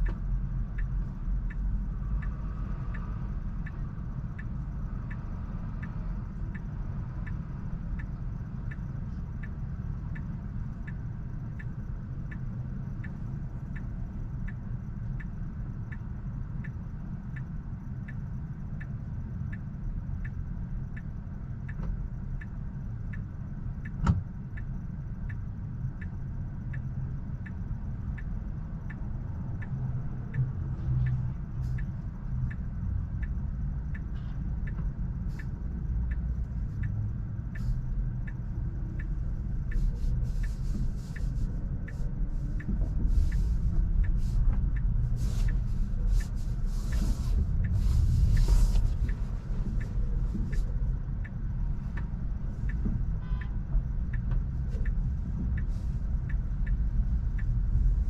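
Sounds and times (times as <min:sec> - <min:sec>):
road rumble: 0:00.0 - 0:58.0
turn signal ticking: 0:00.0 - 0:58.0.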